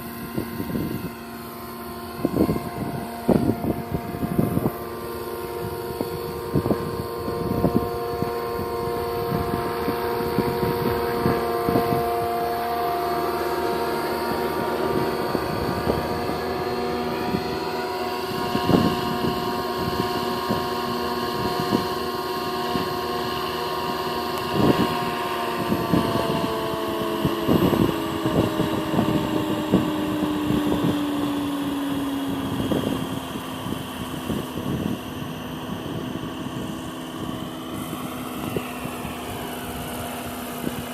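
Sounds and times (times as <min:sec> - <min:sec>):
model helicopter rotor whining: 0:00.0 - 0:40.9
wind hitting microphone: 0:00.0 - 0:40.9.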